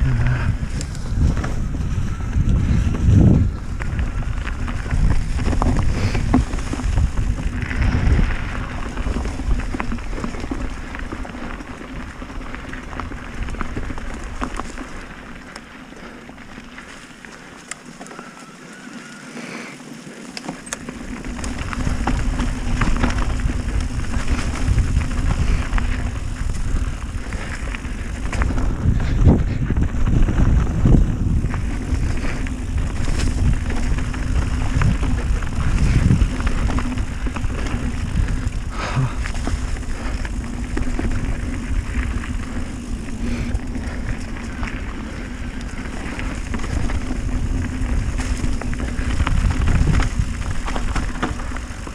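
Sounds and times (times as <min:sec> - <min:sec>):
wind rumble on microphone: 0:00.0 - 0:17.0, 0:20.7 - 0:51.9
tyres rattling over rough ground: 0:00.0 - 0:51.9.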